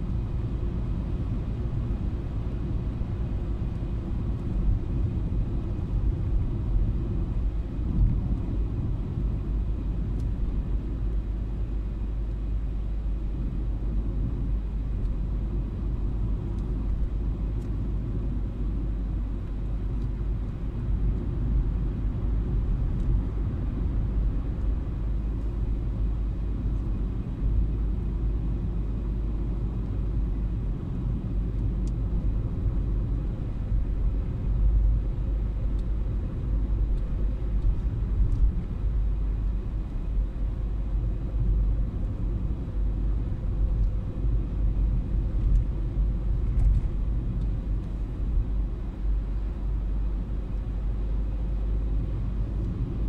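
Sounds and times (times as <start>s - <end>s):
car driving rumble inside cabin: 0.0s - 53.0s.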